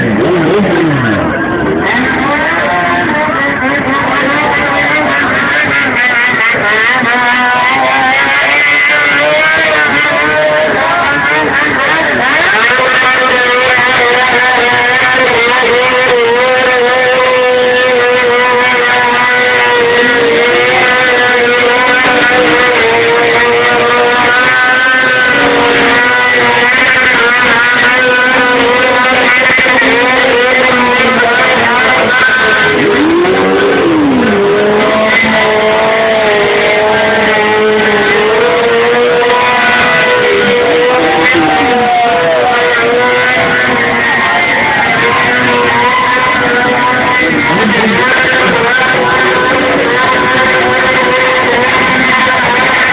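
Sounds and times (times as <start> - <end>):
motorcycle engine at high revs: 0.0 - 52.9
tire squealing: 0.0 - 52.9.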